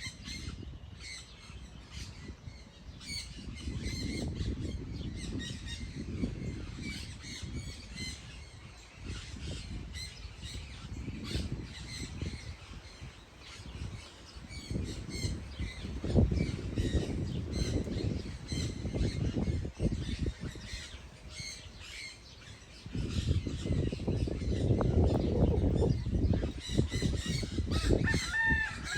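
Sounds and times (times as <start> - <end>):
birds chirping and squawking: 0.0 - 28.9.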